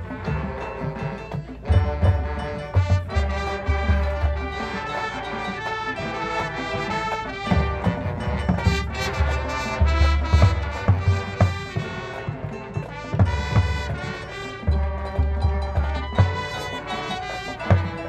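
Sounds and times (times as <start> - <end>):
marching band brass chords: 0.0 - 18.0
percussion strikes: 0.0 - 18.0.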